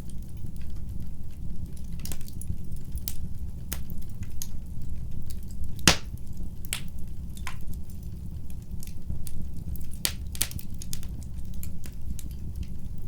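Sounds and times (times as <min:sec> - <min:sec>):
fire popping: 0:00.0 - 0:13.0
fire rumbling: 0:00.0 - 0:13.0.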